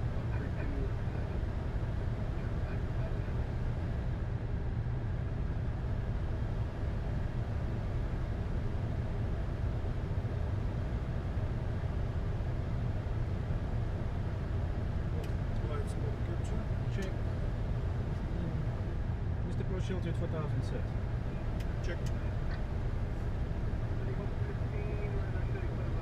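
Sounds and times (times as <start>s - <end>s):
low aircraft cabin rumble: 0.0s - 26.0s.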